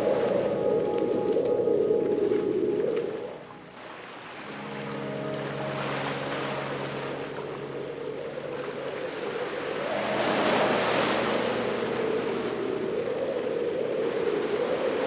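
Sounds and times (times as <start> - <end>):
ocean waves washing on beach: 0.0 - 15.0.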